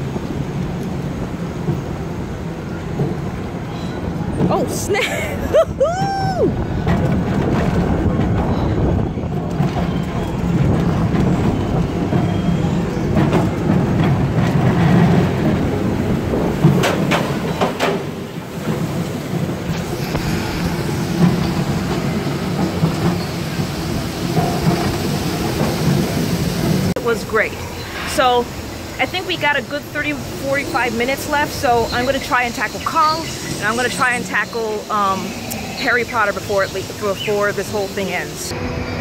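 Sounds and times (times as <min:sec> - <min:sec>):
ride car rumbling on track: 0:00.0 - 0:39.0.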